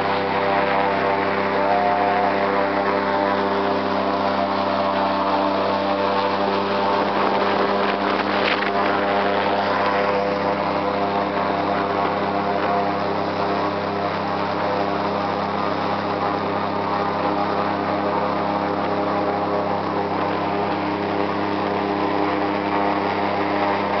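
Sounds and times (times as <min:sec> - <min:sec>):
airboat engine and propeller drone: 0:00.0 - 0:24.0.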